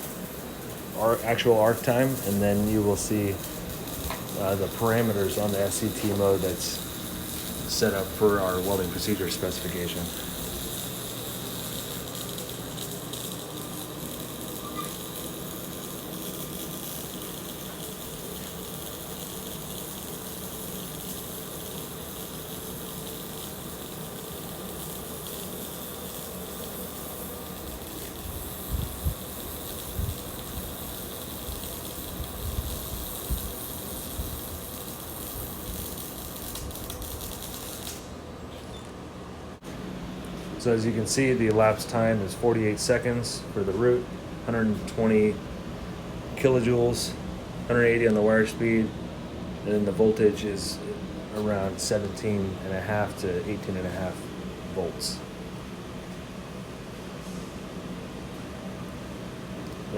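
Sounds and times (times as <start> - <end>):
welding arc hissing crackle: 0.0 - 59.9.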